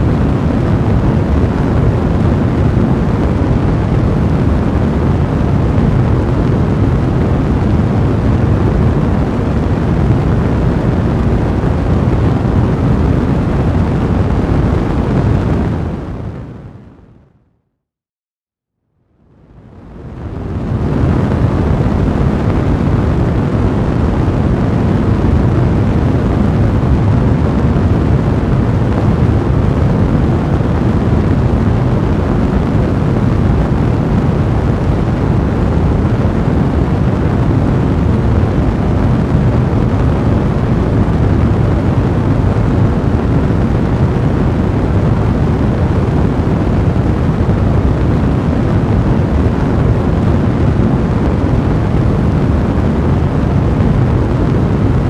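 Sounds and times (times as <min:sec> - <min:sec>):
fireplace flames rushing: 0:00.0 - 0:16.6, 0:19.7 - 0:55.0.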